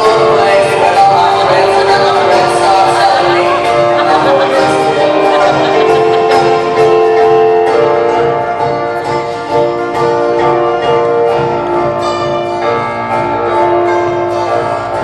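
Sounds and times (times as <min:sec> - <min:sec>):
keyboard notes: 0:00.0 - 0:15.0
live band music: 0:00.0 - 0:15.0.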